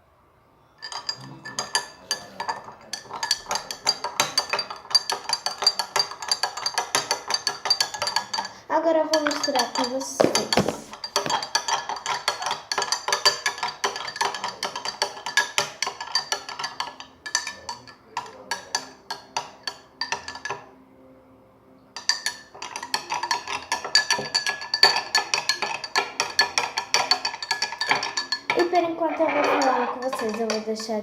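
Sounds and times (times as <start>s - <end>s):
spoon clinking against cup: 0.8s - 20.7s, 22.0s - 31.0s.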